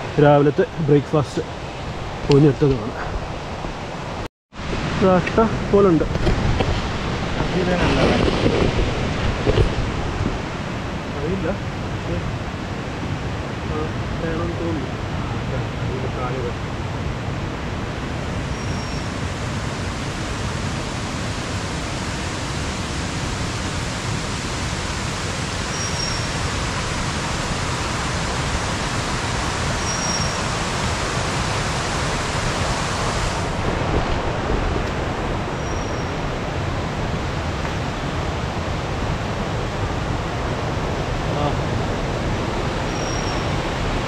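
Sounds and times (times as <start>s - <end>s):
rushing stream: 0.0s - 44.0s.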